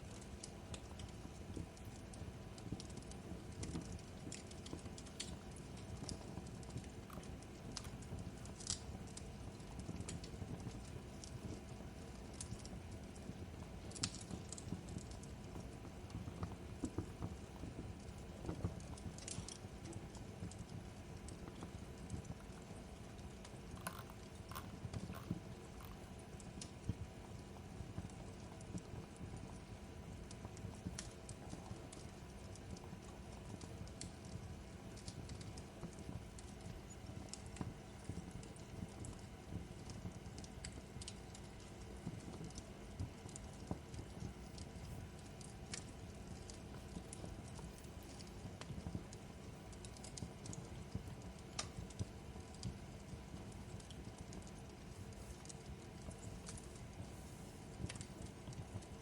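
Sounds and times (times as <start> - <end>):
fireplace crackling and popping: 0.0 - 59.0.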